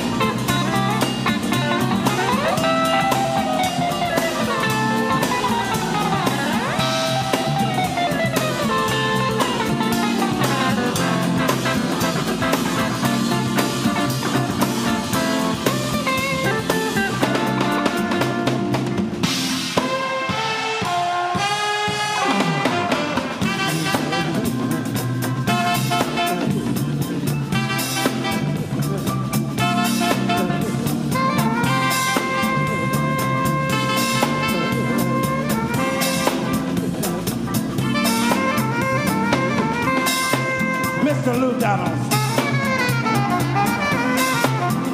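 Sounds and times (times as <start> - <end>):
alto saxophone melody: 0.0 - 44.9
soul jazz band playing: 0.0 - 44.9.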